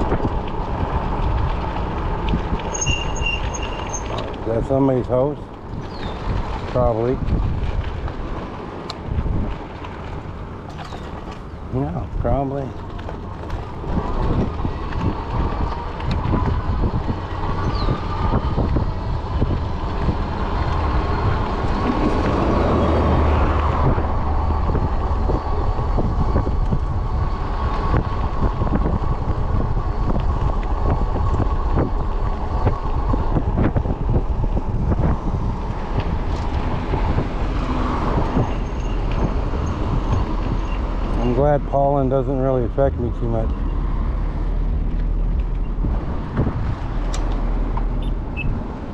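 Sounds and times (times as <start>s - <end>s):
electric bike rolling: 0.0s - 48.9s
wind rumble on microphone: 0.0s - 48.9s.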